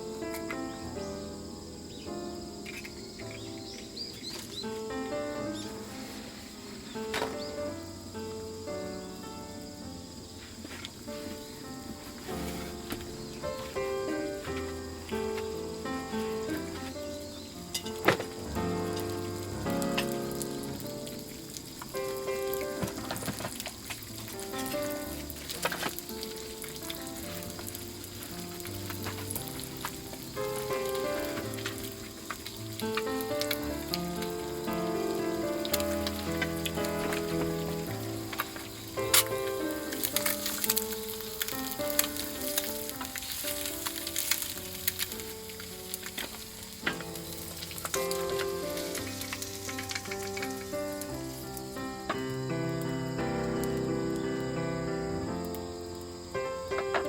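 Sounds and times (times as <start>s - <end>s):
food sizzling in a pan: 0.0s - 54.2s
slow melodic background music: 0.0s - 57.0s.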